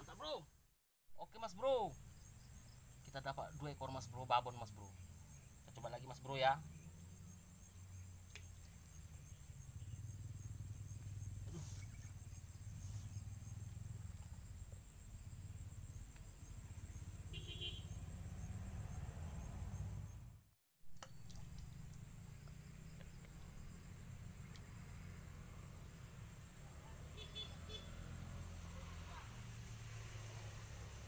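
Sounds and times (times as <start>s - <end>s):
insect chorus: 1.2s - 20.3s, 21.0s - 31.0s.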